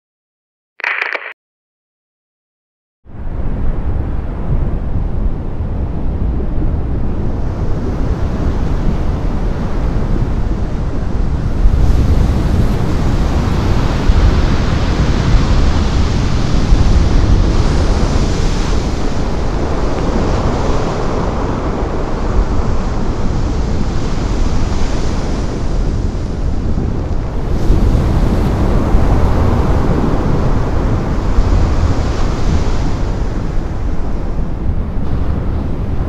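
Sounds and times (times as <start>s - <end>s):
wind buffeting microphone: 3.7s - 36.0s.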